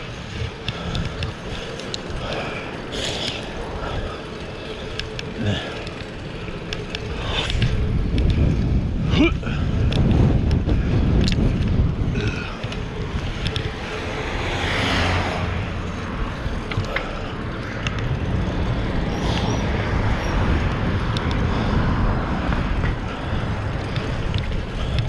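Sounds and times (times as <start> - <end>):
road and tyre rumble: 0.0 - 25.0
wind buffeting microphone: 0.0 - 25.0.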